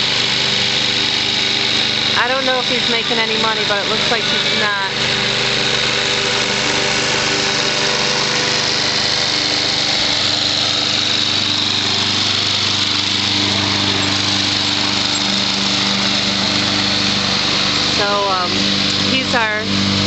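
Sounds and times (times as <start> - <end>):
lawn mower running: 0.0 - 20.0.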